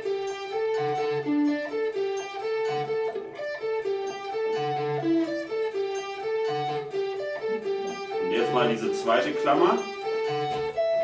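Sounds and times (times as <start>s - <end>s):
electric guitar riff: 0.0s - 11.0s.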